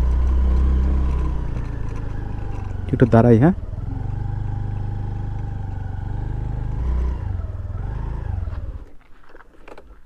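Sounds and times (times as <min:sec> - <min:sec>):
scooter engine slowing: 0:00.0 - 0:10.0.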